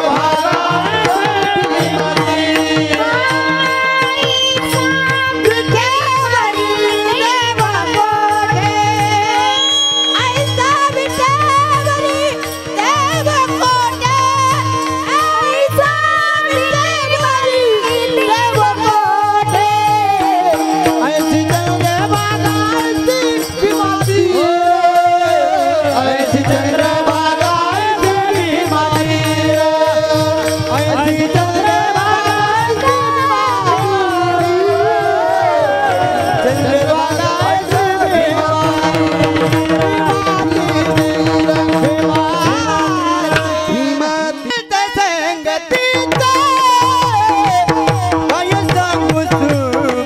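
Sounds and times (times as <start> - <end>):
drum keeping time: 0.0 - 44.9, 45.6 - 50.0.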